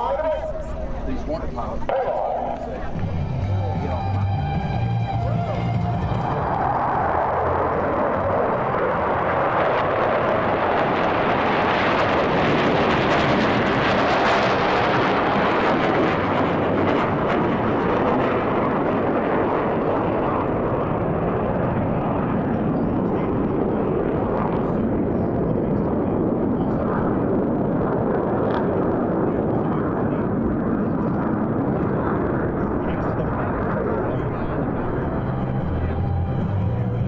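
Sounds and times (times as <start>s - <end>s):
jet engines roaring overhead: 0.0s - 37.0s.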